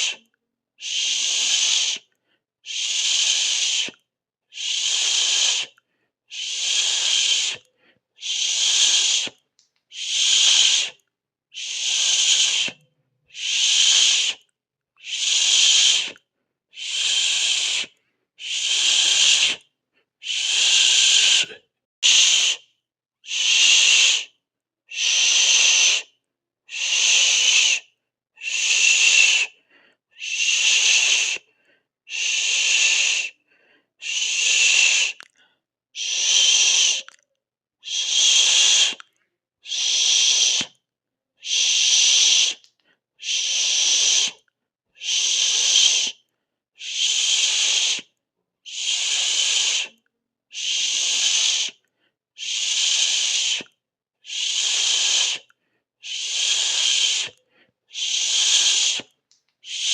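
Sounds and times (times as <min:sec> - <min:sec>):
person hissing through mouth: 0:00.0 - 0:37.2, 0:37.8 - 0:40.8, 0:41.4 - 0:44.4, 0:45.0 - 0:59.9.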